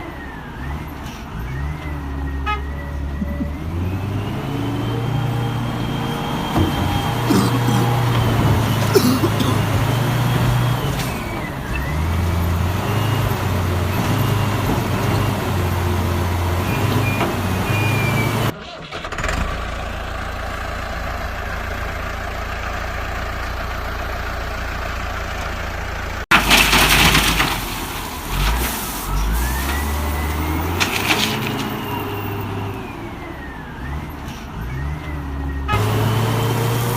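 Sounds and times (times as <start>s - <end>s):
heavy machinery engine revving: 0.4s - 19.8s, 26.4s - 36.9s.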